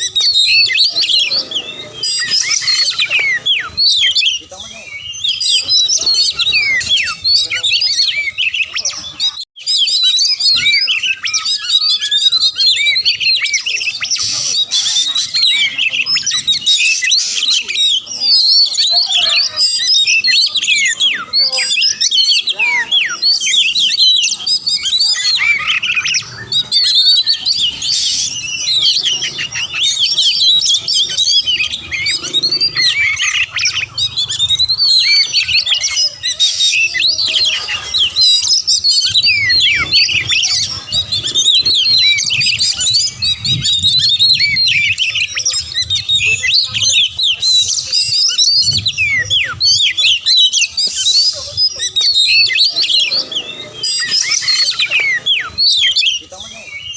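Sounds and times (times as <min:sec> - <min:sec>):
bird singing fast whistles and chirps: 0:00.0 - 0:56.9.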